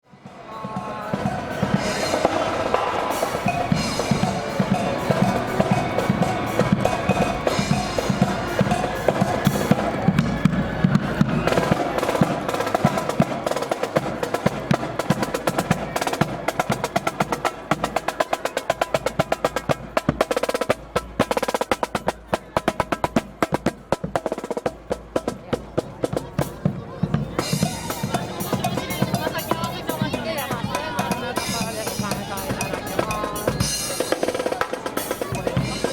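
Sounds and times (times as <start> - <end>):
snare drums: 0.1 - 35.9.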